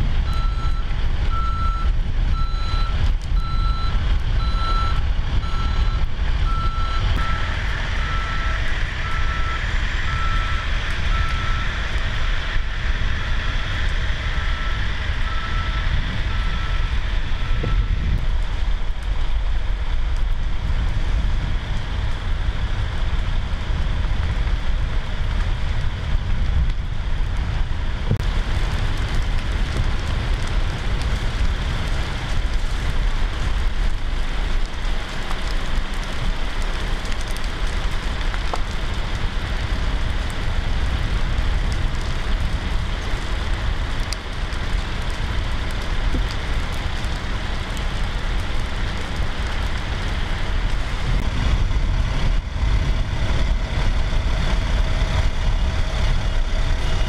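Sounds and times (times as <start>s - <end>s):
engine running: 0.0s - 57.0s
wildfire crackling and popping: 0.0s - 57.0s.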